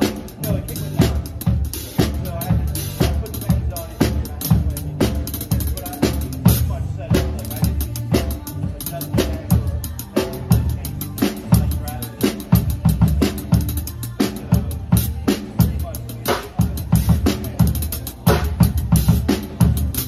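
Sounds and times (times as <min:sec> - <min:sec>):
drum kit playing steady groove: 0:00.0 - 0:20.0.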